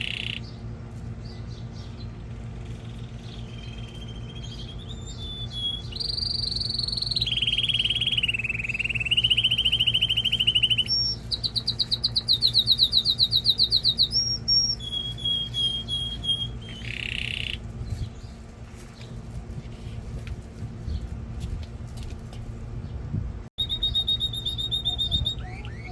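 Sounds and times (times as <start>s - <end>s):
canary singing trills: 0.0s - 18.4s, 23.6s - 25.9s.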